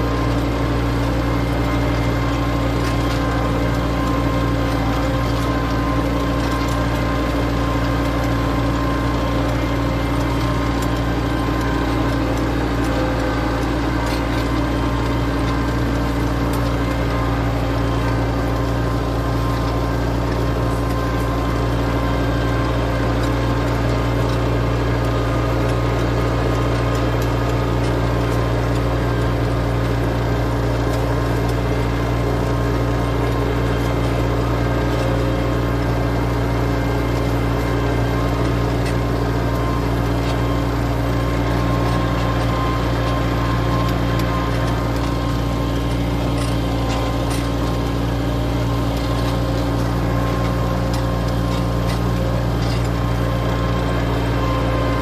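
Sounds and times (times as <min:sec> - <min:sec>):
tractor engine running steadily: 0:00.0 - 0:55.0.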